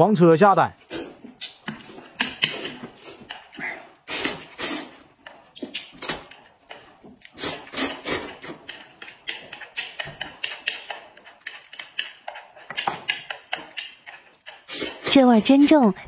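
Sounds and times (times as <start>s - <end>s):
people slurping noodles: 0.8s - 16.0s.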